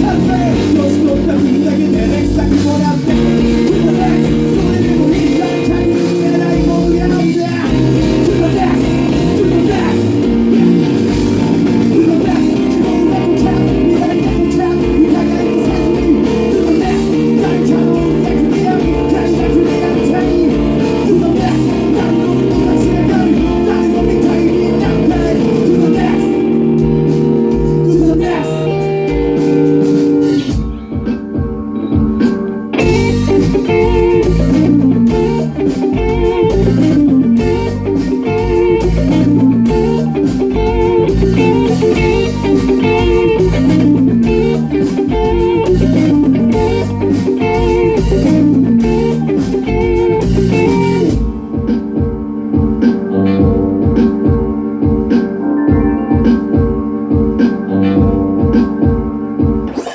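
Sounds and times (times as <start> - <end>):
blues-rock band music: 0.0 - 59.9
picked guitar line: 0.0 - 59.9.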